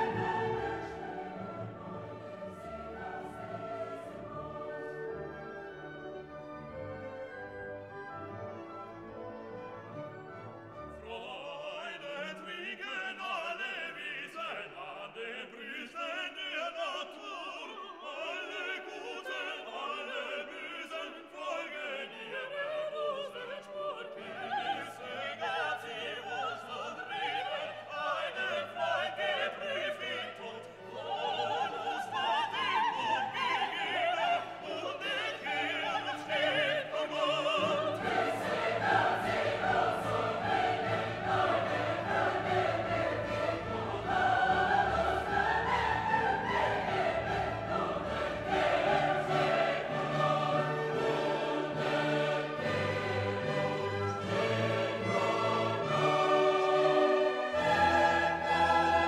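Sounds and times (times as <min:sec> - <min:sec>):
voices singing with orchestra: 0:00.0 - 0:59.0.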